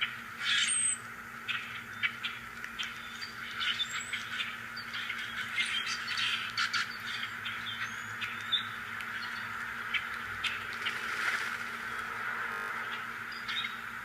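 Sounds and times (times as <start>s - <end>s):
faint steady hum: 0.0s - 14.0s
small birds chirping: 0.0s - 14.0s.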